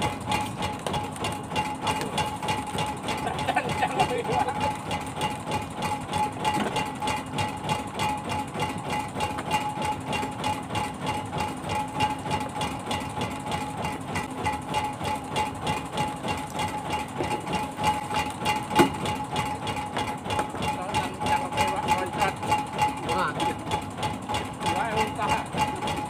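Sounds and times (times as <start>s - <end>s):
boat engine chugging: 0.0s - 26.0s.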